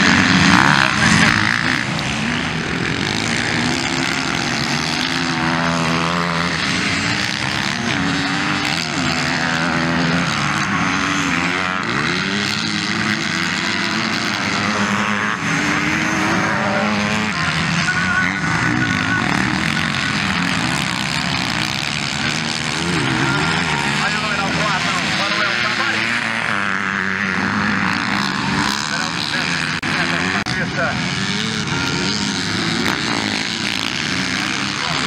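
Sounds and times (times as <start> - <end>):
motocross engines revving: 0.0 - 35.0.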